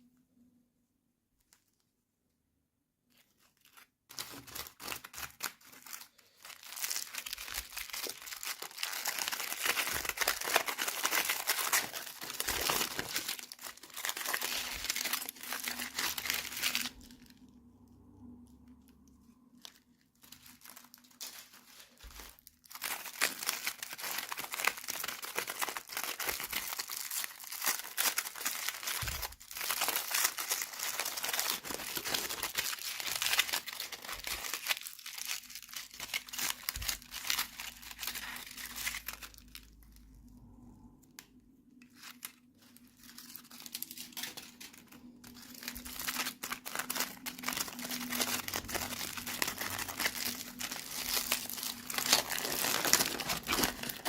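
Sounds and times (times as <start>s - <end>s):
toy packaging crinkling and tearing: 3.1s - 54.0s.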